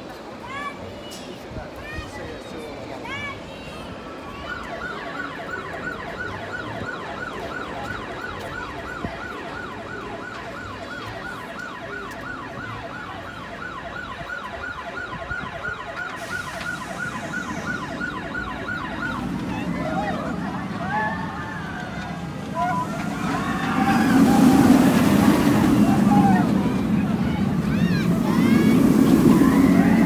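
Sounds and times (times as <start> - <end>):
siren yelping: 4.6 - 30.0.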